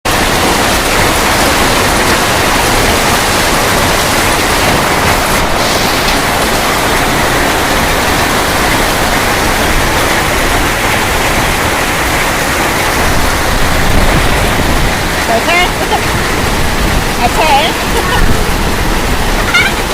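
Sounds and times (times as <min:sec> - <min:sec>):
heavy rain with hailstones: 0:00.1 - 0:19.9.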